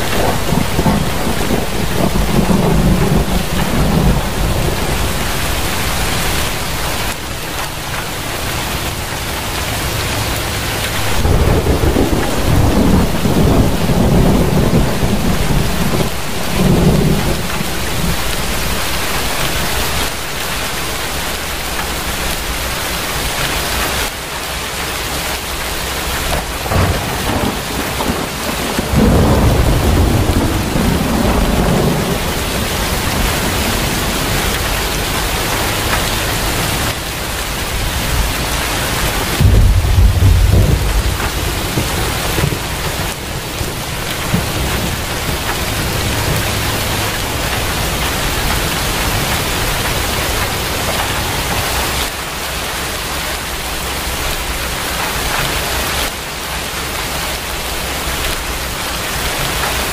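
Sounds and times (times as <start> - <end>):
rolling thunder rumbles: 0.0 - 24.3, 25.4 - 56.1
rain falling: 0.0 - 59.9.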